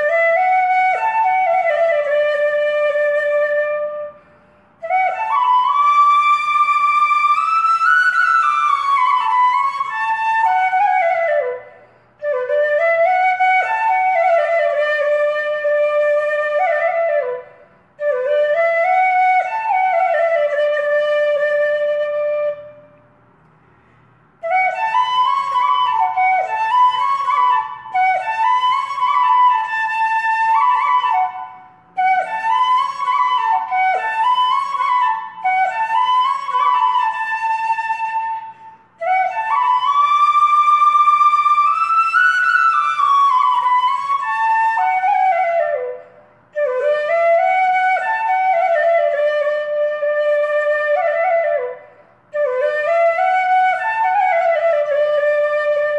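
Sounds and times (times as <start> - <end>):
solo flute melody: 0.0 - 23.0, 24.4 - 55.9.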